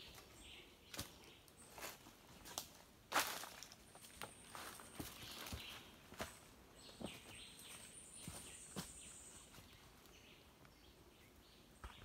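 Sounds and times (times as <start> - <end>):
footsteps on dry leaves and twigs: 0.0 - 10.2.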